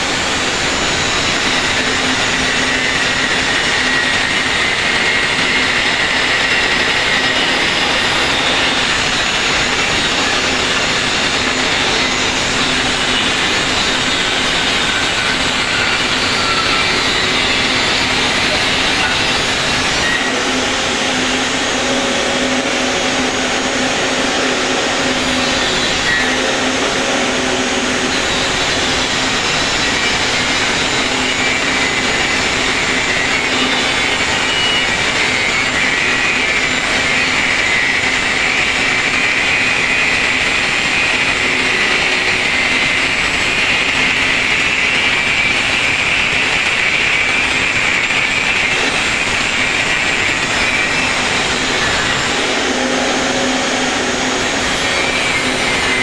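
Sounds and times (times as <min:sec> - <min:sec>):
motor running with high whine: 0:00.0 - 0:56.0.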